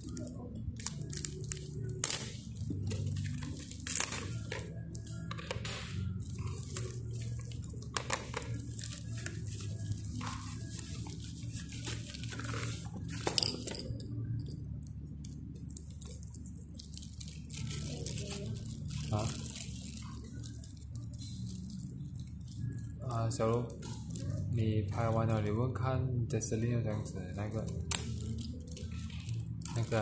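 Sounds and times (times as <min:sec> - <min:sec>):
plastic mailer tearing and crinkling: 0:00.0 - 0:13.3, 0:15.6 - 0:24.2, 0:27.6 - 0:30.0.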